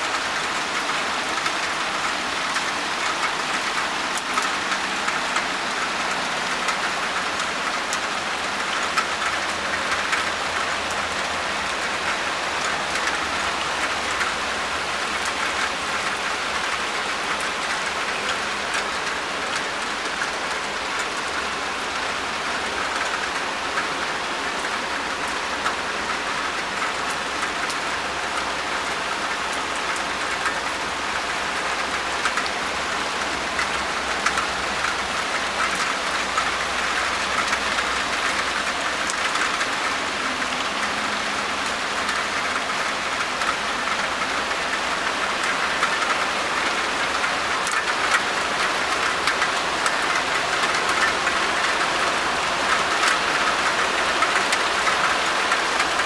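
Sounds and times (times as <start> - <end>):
rain on paved floor: 0.0 - 56.0.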